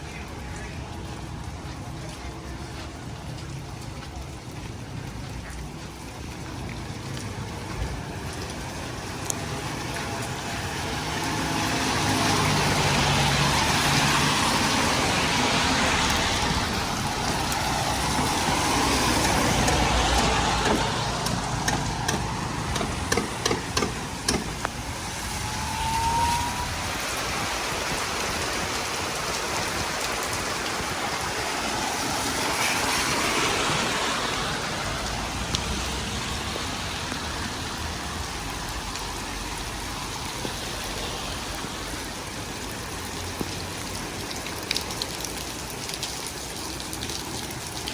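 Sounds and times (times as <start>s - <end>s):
steady rainfall: 0.0s - 47.9s
tyres hissing on wet road: 0.0s - 47.9s.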